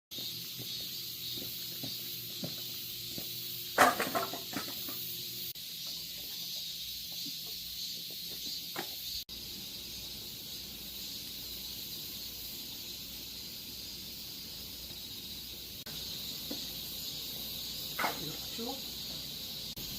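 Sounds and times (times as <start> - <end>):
wood fire hissing and popping: 0.1 - 19.9.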